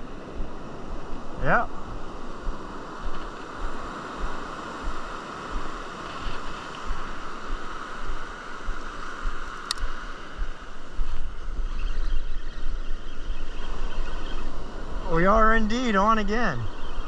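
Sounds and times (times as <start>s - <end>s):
ocean surf hiss: 0.0s - 17.0s
wind buffeting the microphone: 0.0s - 17.0s.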